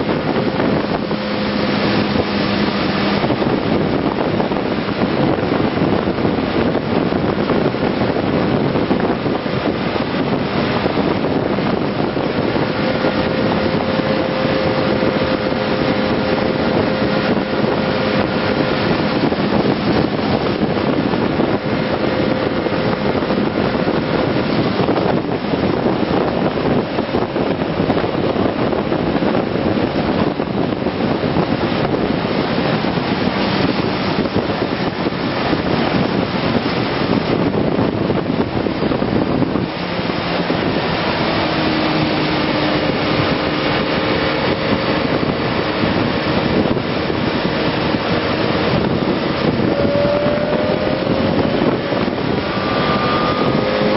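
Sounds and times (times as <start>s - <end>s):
heavy wind rush on microphone: 0.0s - 53.9s.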